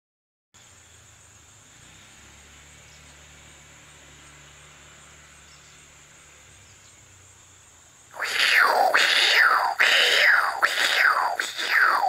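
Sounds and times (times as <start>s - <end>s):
high-pitched insect drone: 0.6s - 12.0s.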